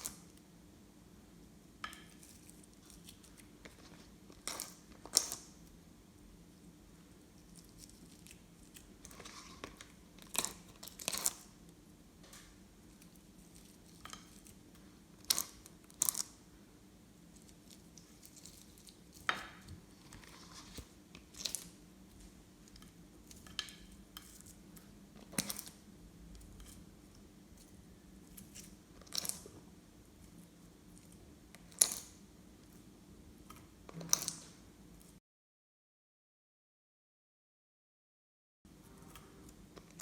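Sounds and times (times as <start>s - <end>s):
faint steady hum: 0.0s - 35.2s, 38.7s - 40.0s.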